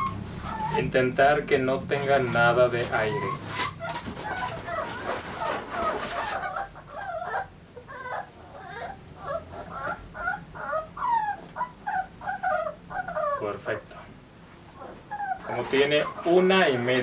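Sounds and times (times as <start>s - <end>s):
puppies whimpering: 0.0s - 1.0s, 2.0s - 14.1s, 14.7s - 17.0s.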